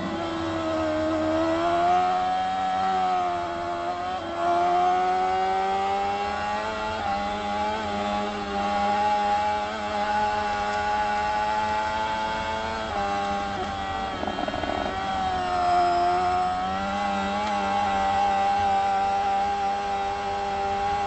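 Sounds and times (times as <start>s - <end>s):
motorcycle engine running hard: 0.0s - 21.0s.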